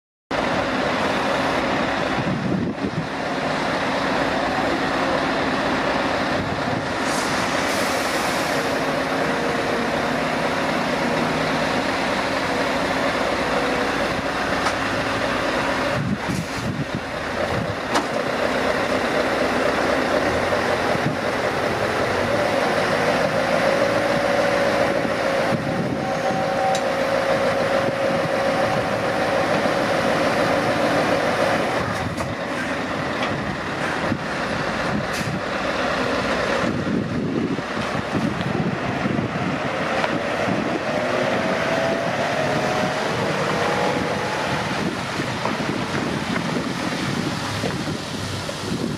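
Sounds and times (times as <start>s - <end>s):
heavy diesel engines running: 0.3s - 48.9s.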